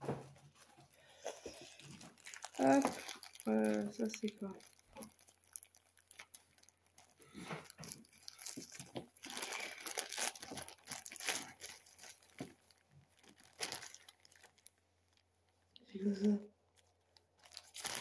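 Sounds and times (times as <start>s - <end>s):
plastic bag crinkling: 0.6s - 15.7s, 16.7s - 18.0s.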